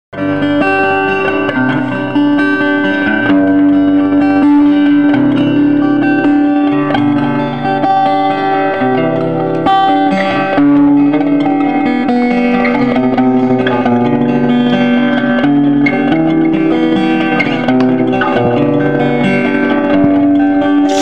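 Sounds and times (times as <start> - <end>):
guitar background music: 0.2 - 21.0.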